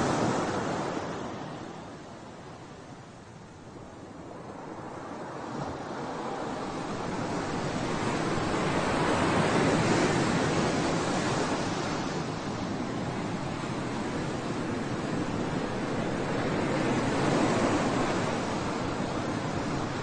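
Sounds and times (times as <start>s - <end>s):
sea waves breaking on shore: 0.0s - 20.0s
wind on microphone: 0.0s - 20.0s.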